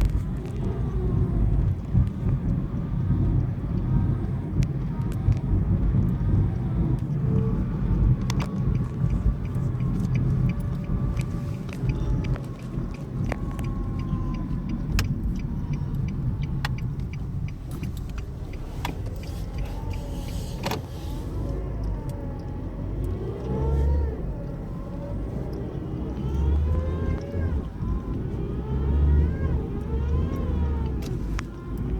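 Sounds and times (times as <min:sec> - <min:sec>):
car engine rumbling: 0:00.0 - 0:31.9.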